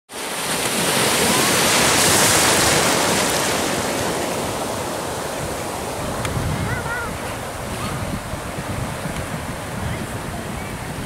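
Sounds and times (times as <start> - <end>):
ocean surf breaking: 0.1 - 11.0.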